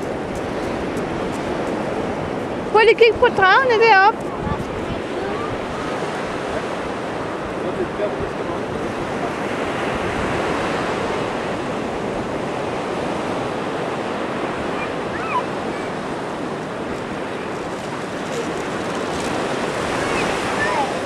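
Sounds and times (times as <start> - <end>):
surf: 0.0 - 21.0.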